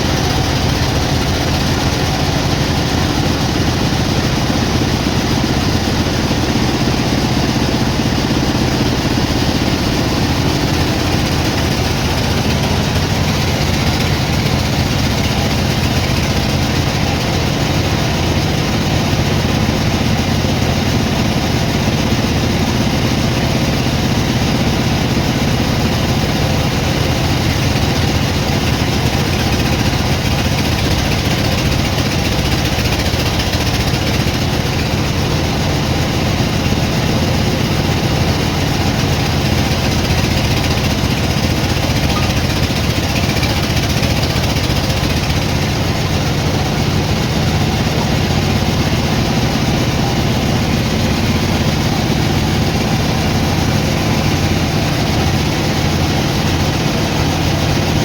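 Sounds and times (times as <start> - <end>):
sawmill machinery engine drone: 0.0 - 58.0.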